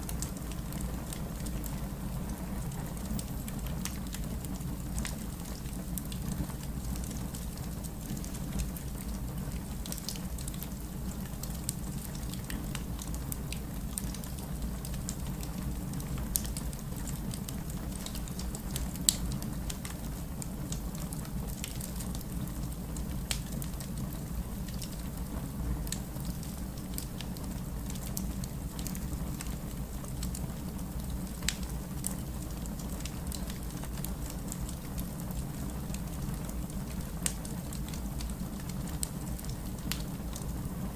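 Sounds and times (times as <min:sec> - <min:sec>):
flames rumbling: 0:00.0 - 0:40.9
fire pops and snaps: 0:02.7 - 0:20.1, 0:23.0 - 0:40.6.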